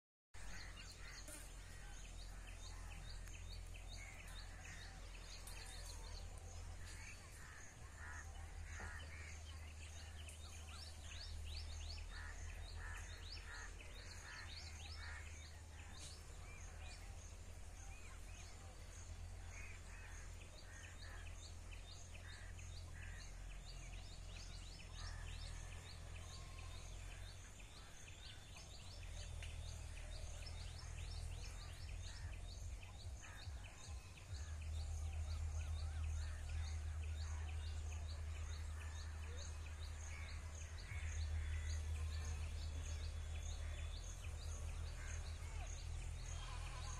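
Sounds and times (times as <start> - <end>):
birds chirping: 0.4 - 46.9.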